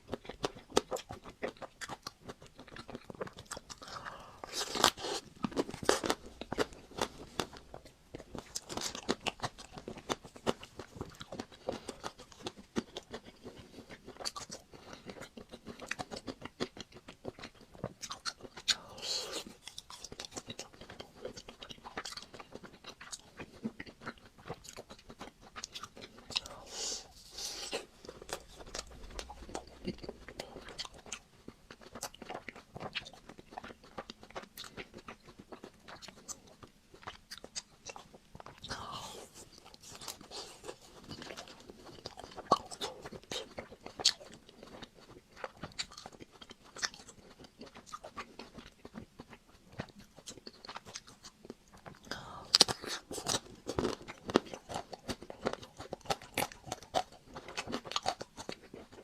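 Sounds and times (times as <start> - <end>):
chewing: 0.0 - 59.0
chocolate coating crunching: 0.0 - 59.0.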